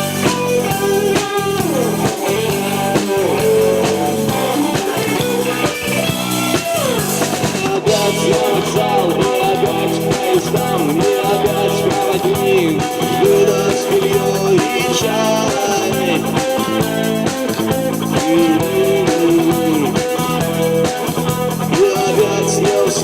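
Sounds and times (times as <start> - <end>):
drum kit beat: 0.0 - 23.0
guitars: 0.0 - 23.0
sliding lead guitar line: 0.0 - 23.0.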